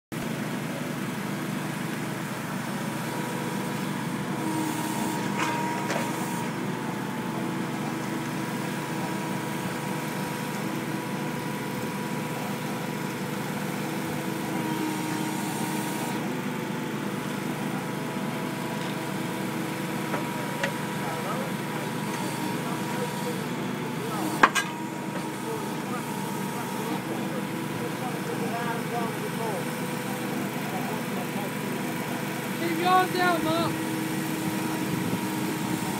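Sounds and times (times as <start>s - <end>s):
excavator diesel engine running: 0.1s - 35.9s.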